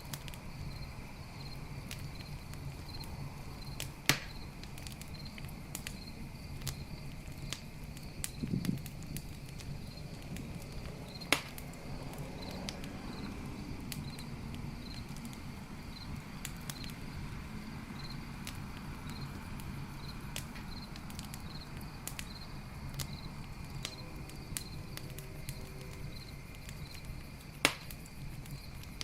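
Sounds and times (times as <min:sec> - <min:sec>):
campfire crackling and popping: 0:00.0 - 0:29.0
crickets chirping: 0:00.0 - 0:29.0.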